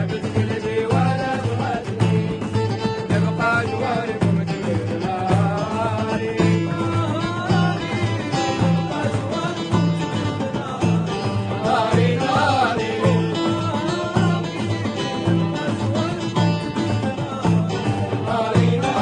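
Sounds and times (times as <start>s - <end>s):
person singing: 0.0s - 19.0s
plucked strings: 0.0s - 19.0s.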